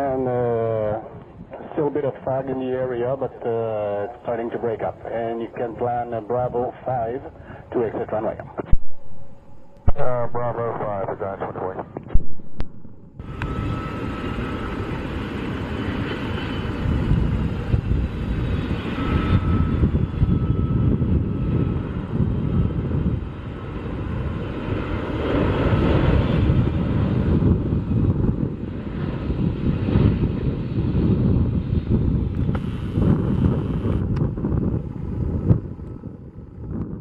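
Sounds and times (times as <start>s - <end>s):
faint high jet whine: 0.0s - 36.5s
jet engines rumbling: 0.0s - 37.0s.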